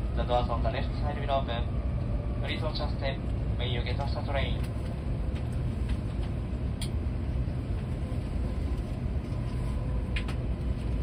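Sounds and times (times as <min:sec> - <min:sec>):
train rumble inside passenger car: 0:00.0 - 0:11.0.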